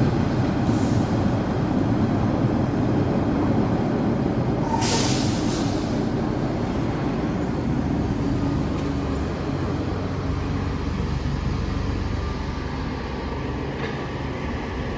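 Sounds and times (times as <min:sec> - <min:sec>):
bus engine rumbling: 0:00.0 - 0:14.9.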